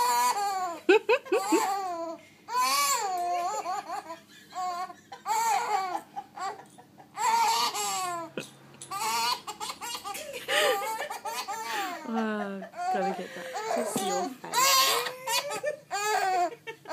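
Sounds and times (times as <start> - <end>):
baby laughing: 0.0 - 16.9.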